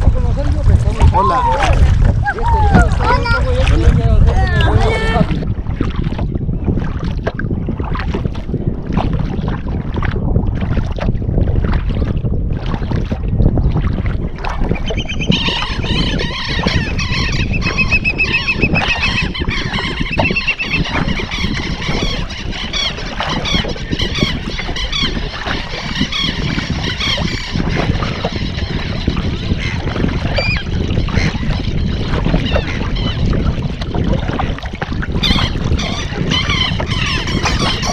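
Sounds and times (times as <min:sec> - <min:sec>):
paddle strokes in water: 0:00.0 - 0:37.9
wind rumble on microphone: 0:00.0 - 0:37.9.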